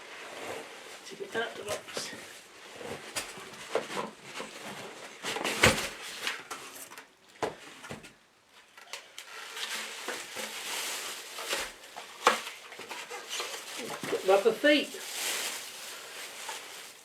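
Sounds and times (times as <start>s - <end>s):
polystyrene rustling and scraping: 0.0s - 6.9s, 9.1s - 17.0s.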